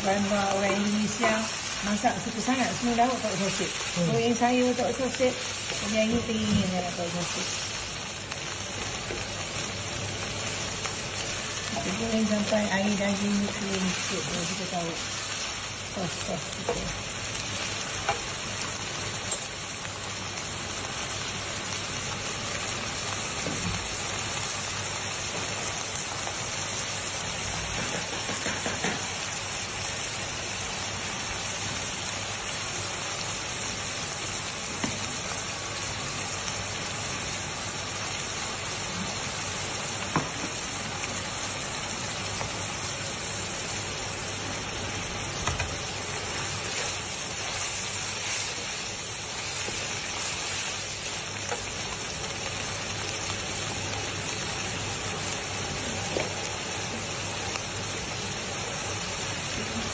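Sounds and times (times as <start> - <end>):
meat sizzling in a wok: 0.0 - 59.9.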